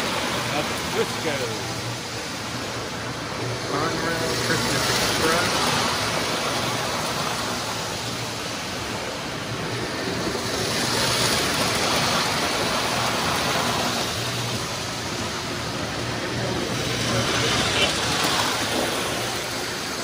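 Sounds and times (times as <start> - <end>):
toy trains rumbling on track: 0.0 - 20.0.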